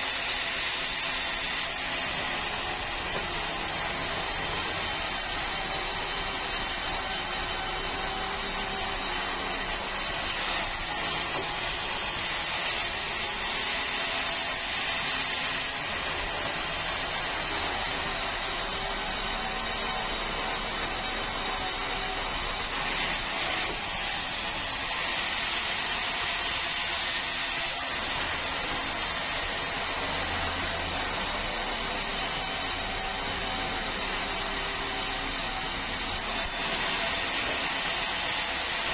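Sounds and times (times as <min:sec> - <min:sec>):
sawmill saw running: 0:00.0 - 0:38.9.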